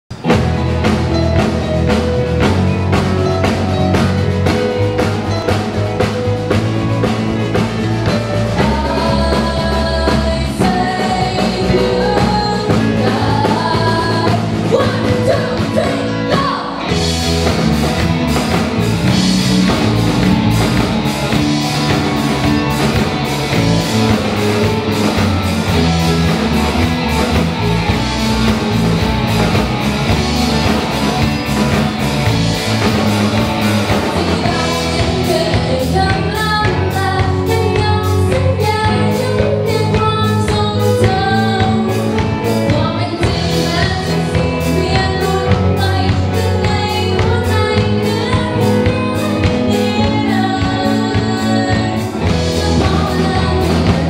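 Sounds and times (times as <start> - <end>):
live rock band playing: 0.1 - 54.0
woman singing lead: 1.4 - 54.0.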